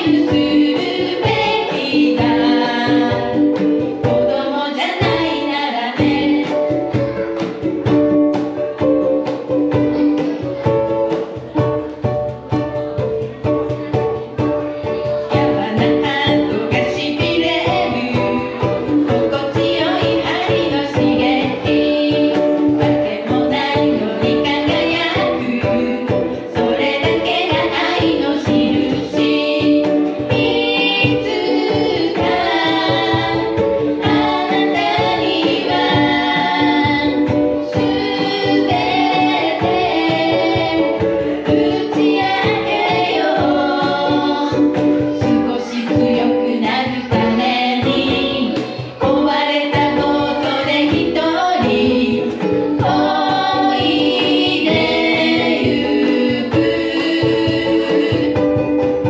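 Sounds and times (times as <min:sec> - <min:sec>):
ukuleles strumming: 0:00.0 - 0:59.0
voices singing in harmony: 0:00.0 - 0:59.0.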